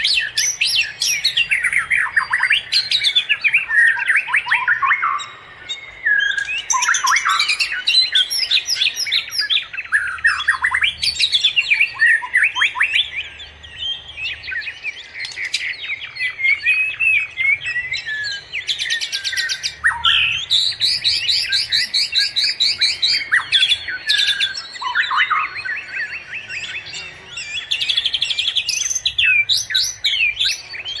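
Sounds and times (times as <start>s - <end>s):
small birds chirping and twittering: 0.0s - 31.0s.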